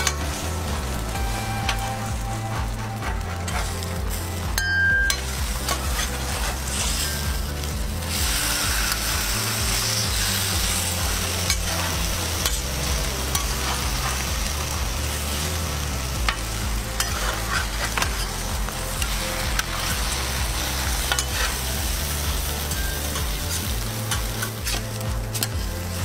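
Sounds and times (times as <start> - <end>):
bread sizzling on a griddle: 0.0 - 26.0
metal spatula scraping griddle: 0.0 - 26.0.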